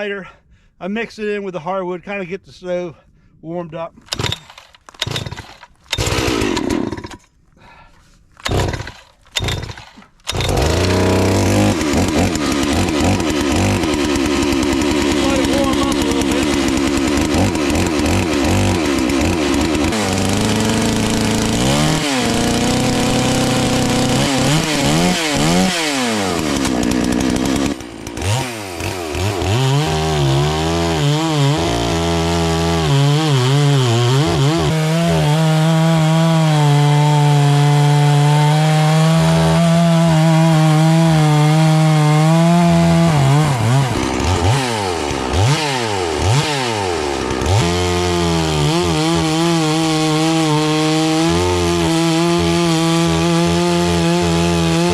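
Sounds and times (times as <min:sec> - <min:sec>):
chainsaw revving and cutting wood: 0:04.1 - 0:07.8, 0:08.4 - 0:54.9.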